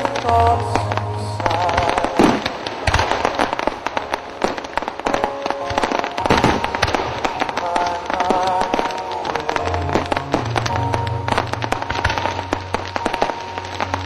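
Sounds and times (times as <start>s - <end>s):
fireworks booms: 0.0s - 14.0s
fireworks crackling and popping: 0.0s - 14.0s.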